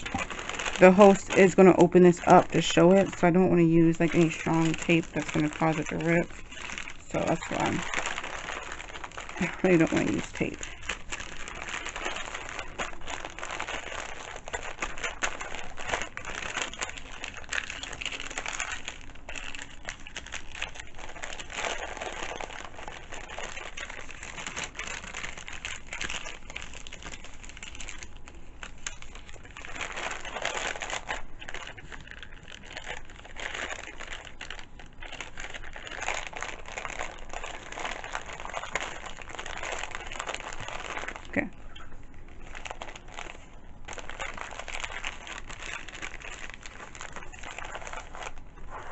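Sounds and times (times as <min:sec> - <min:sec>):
wrapping paper rustling: 0:00.0 - 0:48.9.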